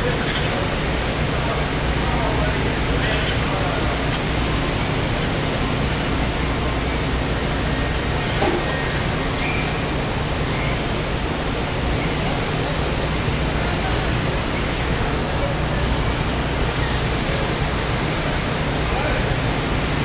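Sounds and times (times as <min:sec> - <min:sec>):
factory machinery and ventilation din: 0:00.0 - 0:20.0.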